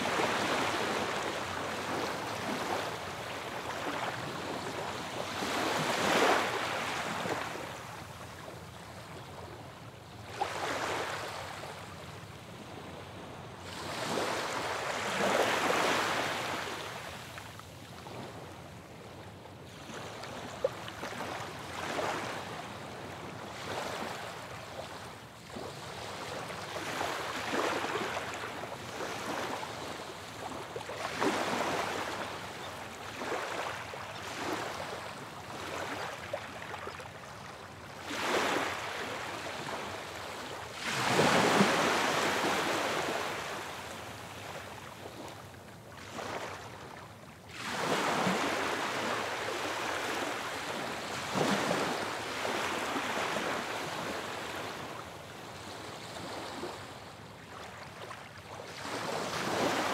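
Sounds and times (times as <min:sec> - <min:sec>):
sea waves breaking on shore: 0:00.0 - 0:08.4, 0:10.2 - 0:59.9.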